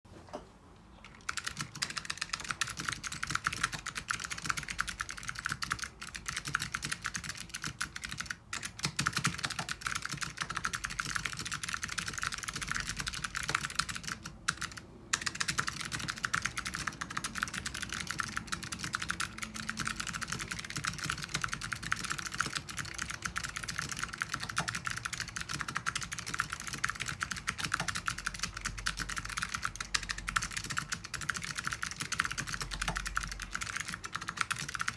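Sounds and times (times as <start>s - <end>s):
clicky mechanical keyboard typing: 1.0s - 34.9s.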